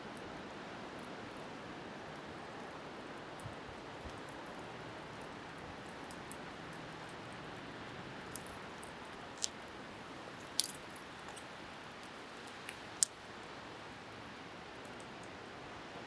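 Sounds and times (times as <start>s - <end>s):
bonfire crackling: 0.1s - 15.3s.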